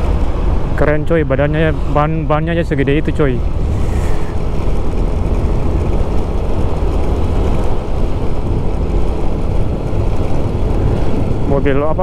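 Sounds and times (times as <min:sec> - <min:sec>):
road noise: 0:00.0 - 0:12.0
wind rumble: 0:00.0 - 0:12.0.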